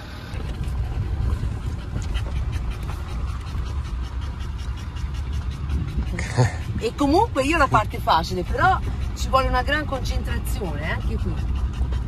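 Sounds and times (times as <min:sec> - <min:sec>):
vehicle rumbling on dirt track: 0:00.0 - 0:12.0
dog panting: 0:00.6 - 0:12.0.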